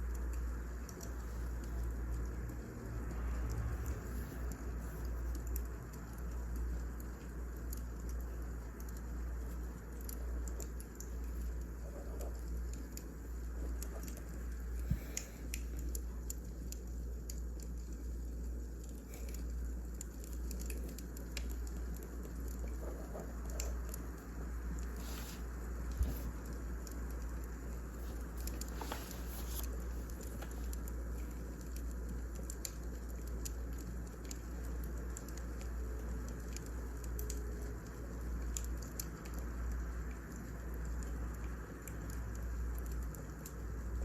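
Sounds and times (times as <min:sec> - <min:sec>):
low steady fire rumble: 0:00.0 - 0:44.0
wood fire crackling and popping: 0:00.0 - 0:44.0.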